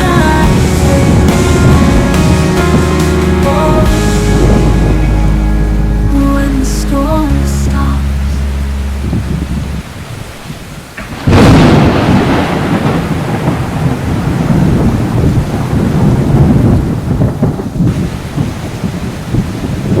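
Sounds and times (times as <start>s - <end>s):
steady rain: 0.0s - 20.0s
thunderclap and rumble: 0.0s - 20.0s.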